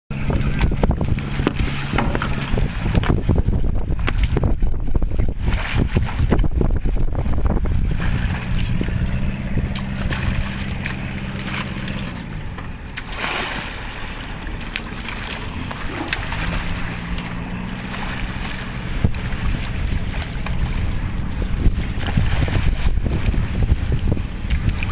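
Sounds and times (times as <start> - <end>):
boat engine running: 0.1 - 24.9
water noise: 0.1 - 24.9
wind buffeting microphone: 0.1 - 24.9.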